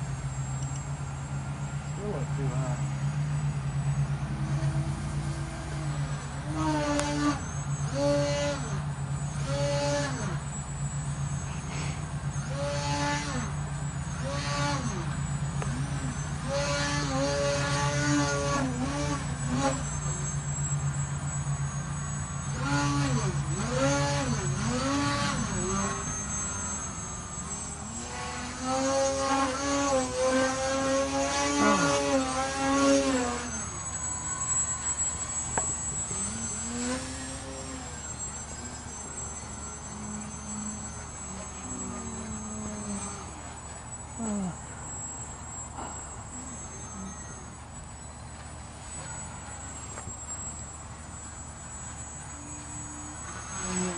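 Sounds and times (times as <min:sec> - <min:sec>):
model plane motor whining: 0:00.0 - 0:53.9.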